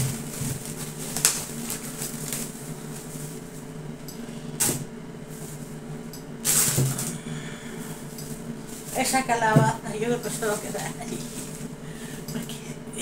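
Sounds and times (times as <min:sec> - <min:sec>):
plastic bag rustling: 0:00.0 - 0:03.8, 0:05.2 - 0:11.8
faint steady hum: 0:00.0 - 0:13.0.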